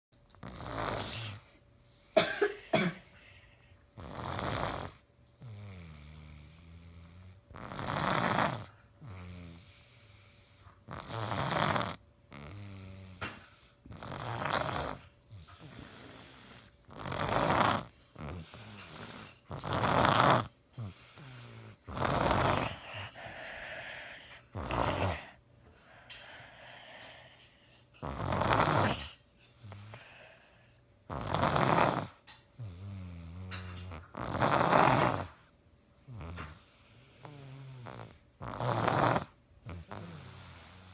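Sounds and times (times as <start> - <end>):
girl snoring: 0.4 - 1.5, 2.2 - 25.4, 28.0 - 40.9.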